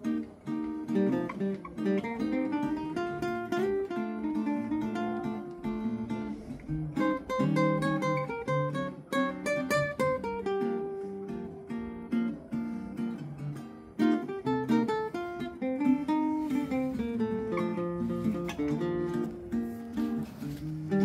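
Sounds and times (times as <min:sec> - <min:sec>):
acoustic guitars strumming chords: 0:00.0 - 0:21.0
picked guitar melody: 0:00.0 - 0:21.0.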